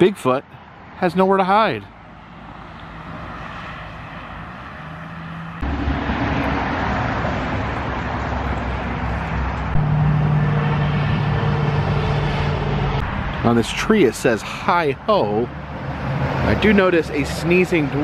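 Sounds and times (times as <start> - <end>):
road traffic drone: 0.0 - 18.0.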